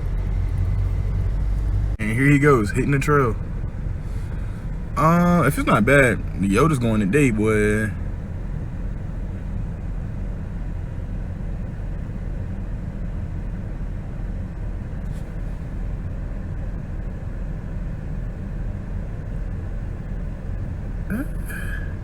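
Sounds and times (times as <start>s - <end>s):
vehicle engine and tyres drone: 0.0s - 22.0s.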